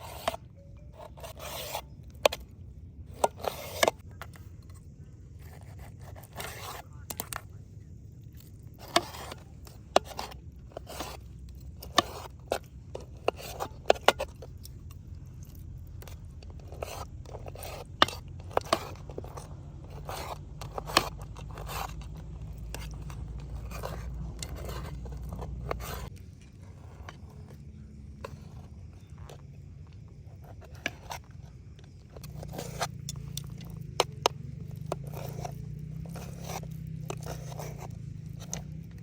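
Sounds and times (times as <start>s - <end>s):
low steady rumble: 0.0s - 39.0s
utensils clicking and scraping: 0.0s - 39.0s.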